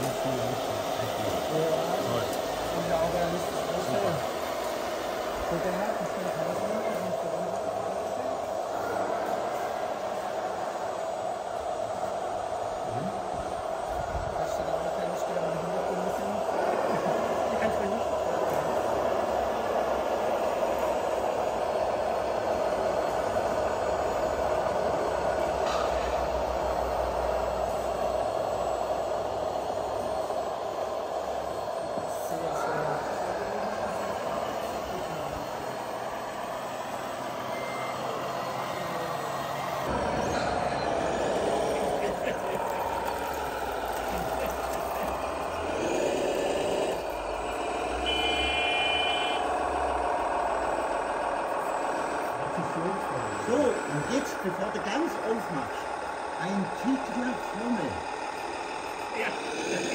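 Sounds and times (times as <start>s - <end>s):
high steady tone: 0.0s - 59.9s
toy vehicle motors humming: 0.0s - 59.9s.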